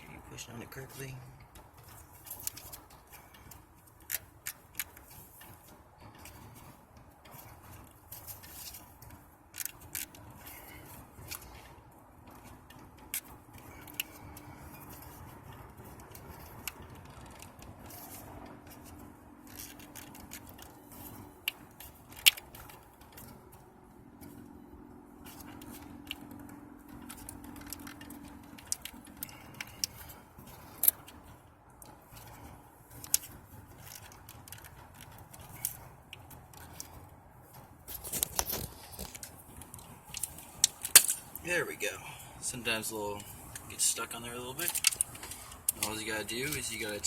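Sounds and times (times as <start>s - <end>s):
plastic connector clicks and scrapes: 1.4s - 41.4s, 43.1s - 47.0s.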